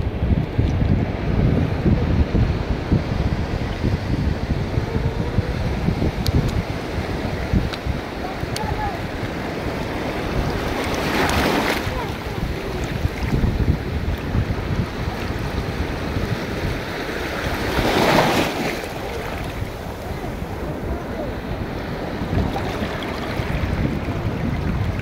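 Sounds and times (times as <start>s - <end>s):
wind buffeting microphone: 0.0s - 25.0s
sea waves washing on rocks: 2.5s - 25.0s.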